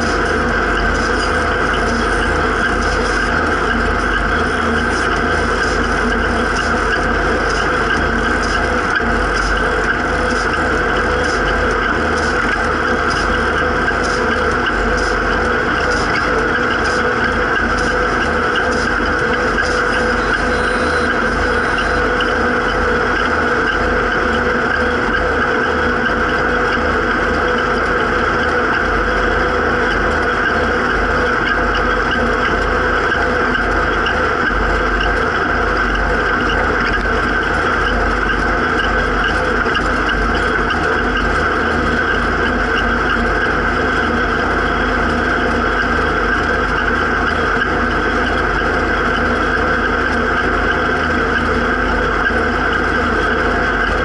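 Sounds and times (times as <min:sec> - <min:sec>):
steady high whine: 0:00.0 - 0:54.0
tractor diesel engine running: 0:00.0 - 0:54.0.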